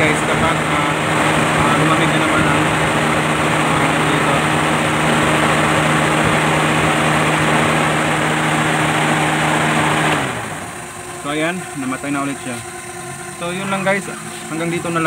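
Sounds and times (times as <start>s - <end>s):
engine idling: 0.0s - 15.0s
radiator fan hum and air rush: 0.0s - 15.0s.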